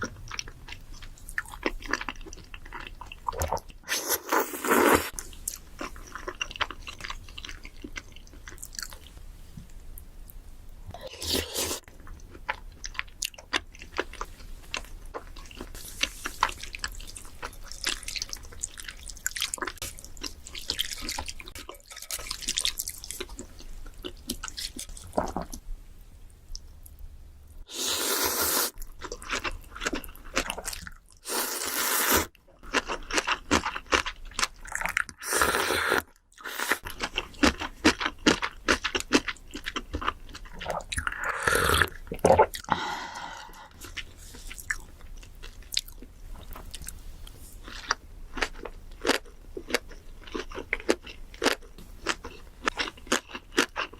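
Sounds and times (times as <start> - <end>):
chewing and crunching: 0.0 - 9.1, 11.9 - 25.6, 28.7 - 31.3, 32.3 - 35.3, 36.1 - 41.2, 43.8 - 53.9.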